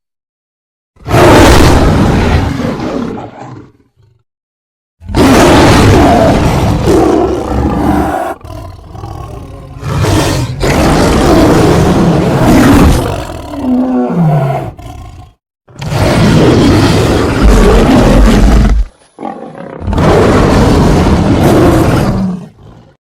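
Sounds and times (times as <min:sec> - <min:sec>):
lion roaring: 0:01.0 - 0:04.2, 0:05.0 - 0:23.0.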